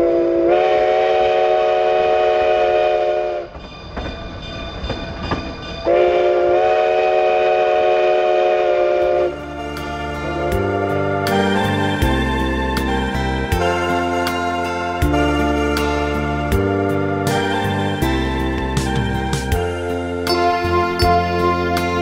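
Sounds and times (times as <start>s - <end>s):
steam locomotive whistle: 0.0s - 3.5s, 5.9s - 18.6s, 19.2s - 22.0s
train rumble and clicks: 1.4s - 22.0s.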